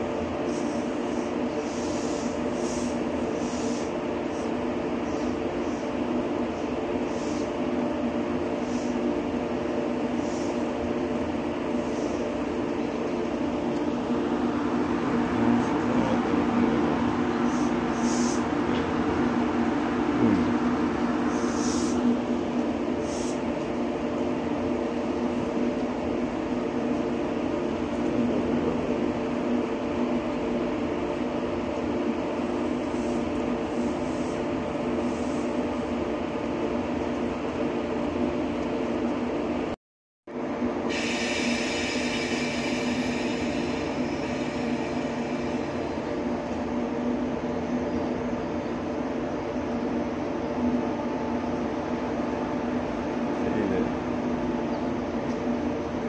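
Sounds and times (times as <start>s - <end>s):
train equipment hum: 0.0s - 56.0s.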